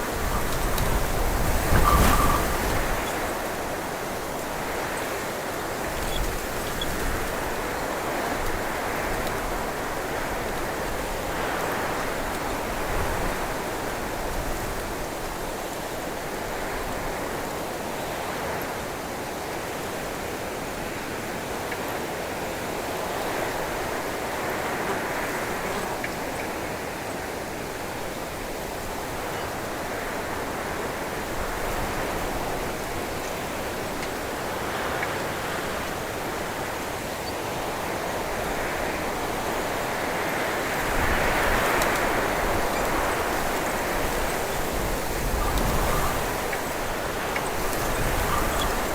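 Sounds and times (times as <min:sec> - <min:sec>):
wind rushing through branches: 0:00.0 - 0:48.9.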